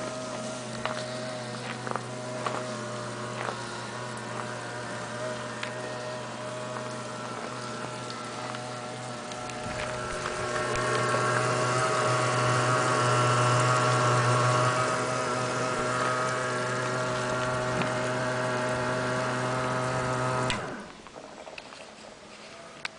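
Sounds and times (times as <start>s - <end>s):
electric sprayer pump humming: 0.0s - 21.3s.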